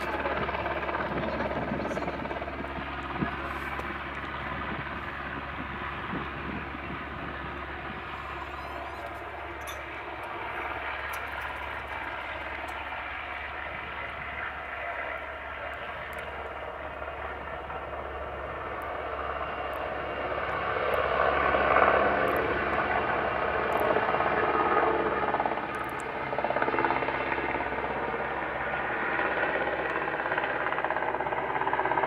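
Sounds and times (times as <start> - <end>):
rotor blades beating: 0.0 - 28.0
helicopter engines and rotor: 0.0 - 32.0.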